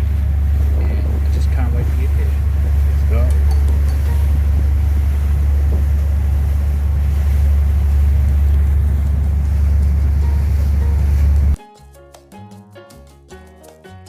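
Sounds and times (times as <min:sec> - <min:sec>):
vehicle low rumble: 0:00.0 - 0:11.6.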